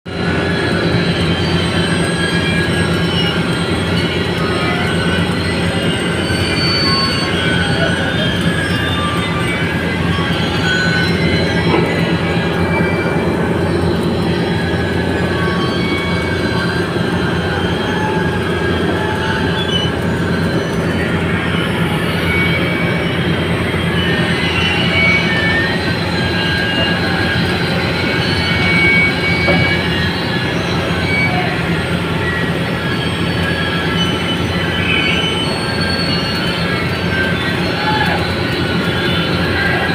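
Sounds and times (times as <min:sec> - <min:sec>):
heavy machinery hum: 0:00.1 - 0:39.9
metallic squeals: 0:00.1 - 0:39.9.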